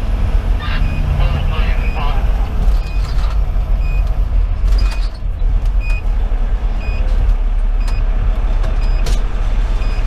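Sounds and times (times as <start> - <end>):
diesel engine rumble: 0.0 - 10.0.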